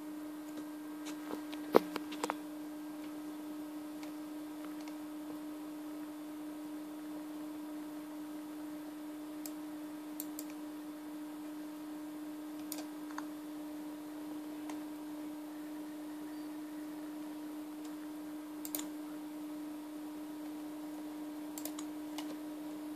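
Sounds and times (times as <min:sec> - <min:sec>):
low hum: 0:00.0 - 0:22.9.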